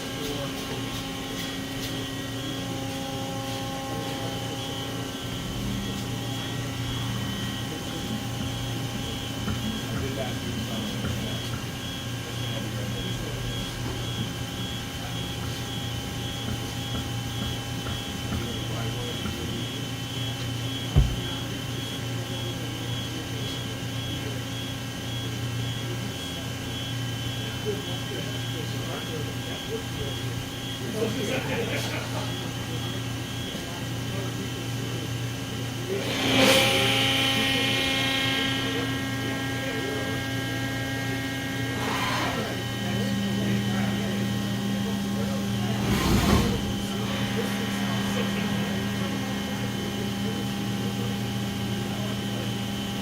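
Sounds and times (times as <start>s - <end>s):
machining center hum and whine: 0.0s - 53.0s.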